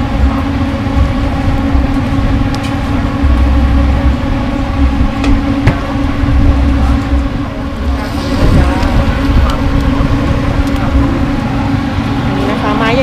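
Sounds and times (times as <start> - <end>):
low rumbling: 0.0 - 13.0
mechanical hum: 0.0 - 13.0.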